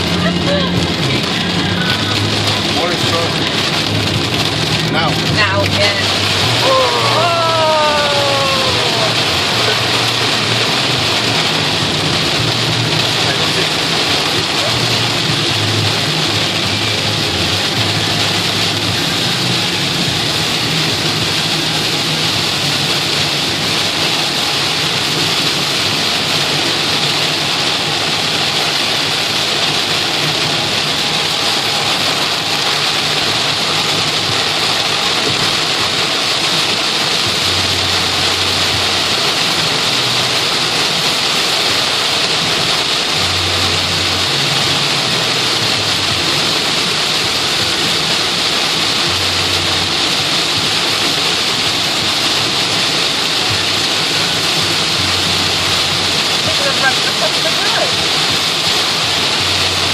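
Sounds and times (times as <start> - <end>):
heavy rain pounding on a car: 0.0 - 59.9
low engine hum: 0.0 - 59.9.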